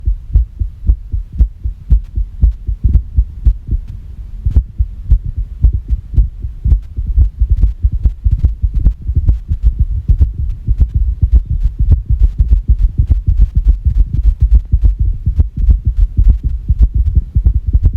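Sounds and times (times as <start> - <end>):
irregular heartbeat thumps: 0.0 - 17.9.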